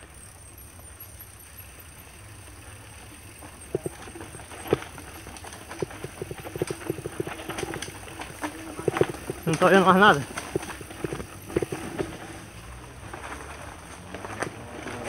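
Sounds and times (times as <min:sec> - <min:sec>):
bike knocking and rattling: 0:00.0 - 0:15.0
bike rolling on dirt trail: 0:00.0 - 0:15.0.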